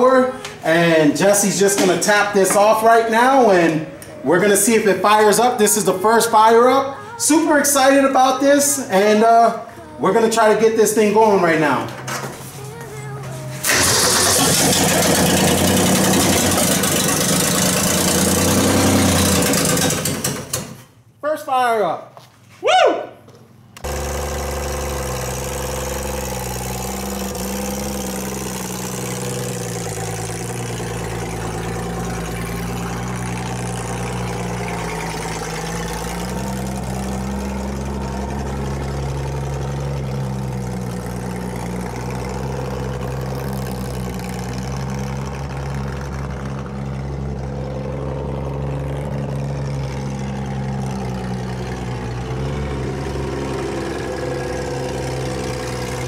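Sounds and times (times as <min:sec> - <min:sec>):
car engine running: 0:00.0 - 0:20.8, 0:23.5 - 0:56.0.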